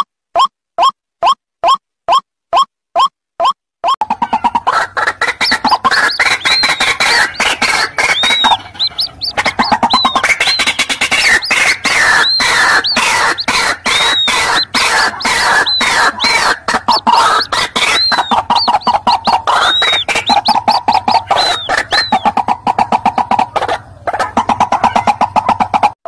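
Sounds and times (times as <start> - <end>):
high peeps: 0.4 - 23.8
waterhens chattering: 4.0 - 26.0.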